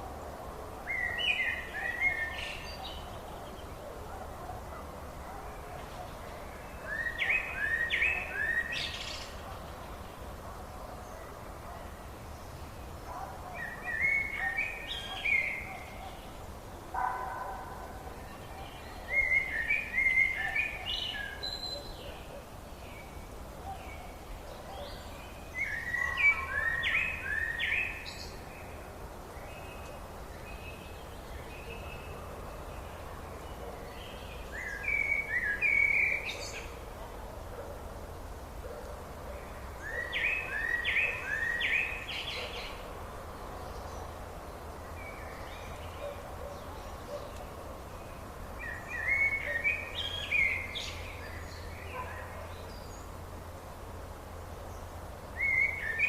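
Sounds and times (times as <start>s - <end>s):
low background hiss: 0.0s - 56.0s
songbird singing repeated notes: 0.8s - 10.4s, 11.0s - 37.7s, 38.5s - 53.6s, 54.6s - 56.0s.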